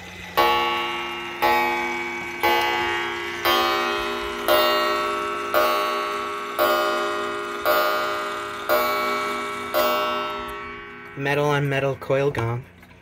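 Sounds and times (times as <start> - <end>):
clock striking a wire gong: 0.0 - 12.6.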